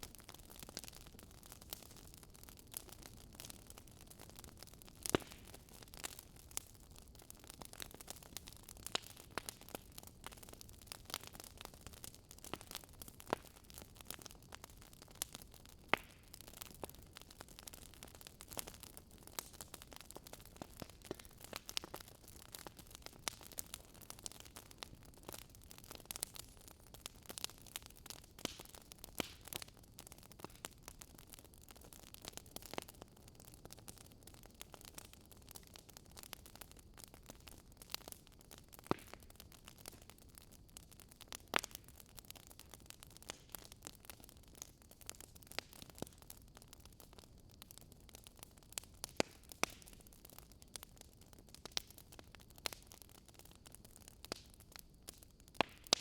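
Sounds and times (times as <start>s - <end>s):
fire crackling and popping: 0.0s - 56.0s
soft steady hiss: 0.0s - 56.0s.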